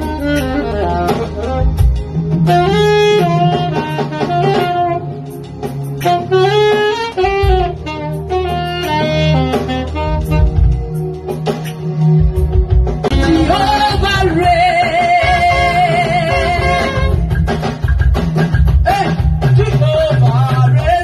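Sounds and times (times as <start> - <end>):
saxophone melody: 0.0 - 18.2
low accompaniment: 0.0 - 21.0.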